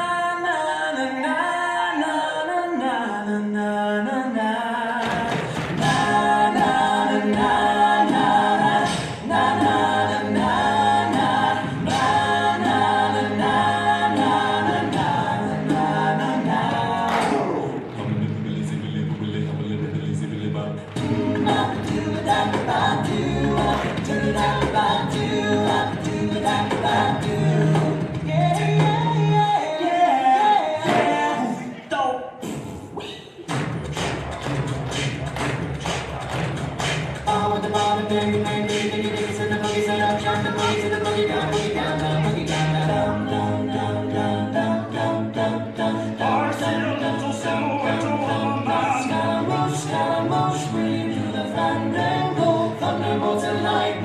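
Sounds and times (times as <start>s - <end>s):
a cappella group singing in harmony: 0.0s - 33.5s, 36.8s - 54.0s.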